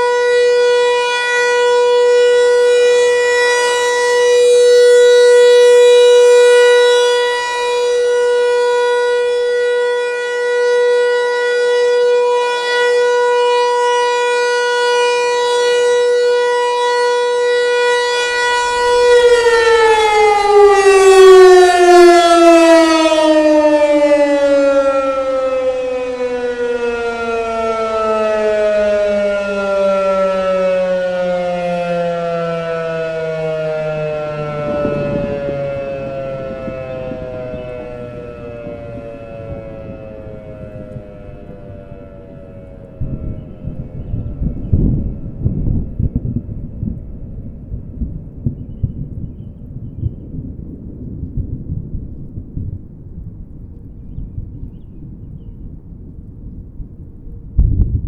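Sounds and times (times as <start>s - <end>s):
warning siren steady alert tone: 0.0s - 57.6s.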